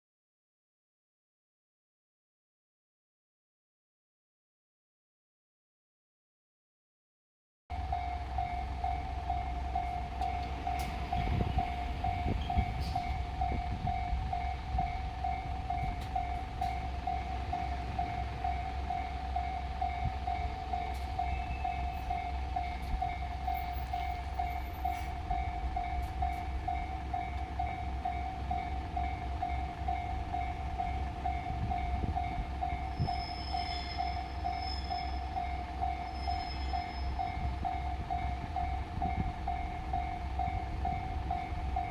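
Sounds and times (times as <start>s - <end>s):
diesel railcar engine rumble: 7.7s - 41.9s
level crossing warning bell: 7.7s - 41.9s.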